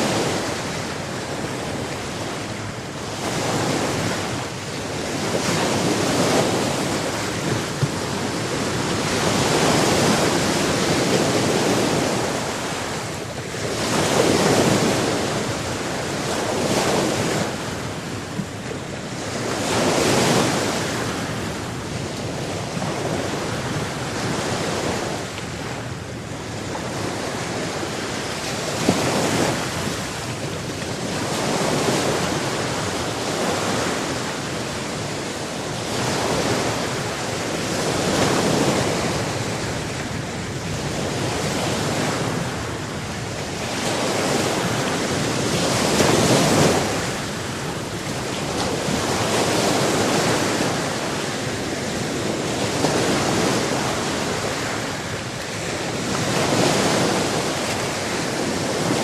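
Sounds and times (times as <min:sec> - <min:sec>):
ocean waves breaking on shore: 0:00.0 - 0:59.0
wind on microphone: 0:00.0 - 0:59.0.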